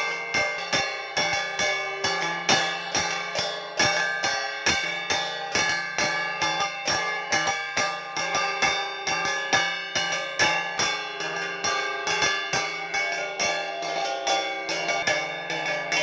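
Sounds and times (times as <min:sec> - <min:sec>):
hand gongs struck with mallets: 0:00.0 - 0:16.0.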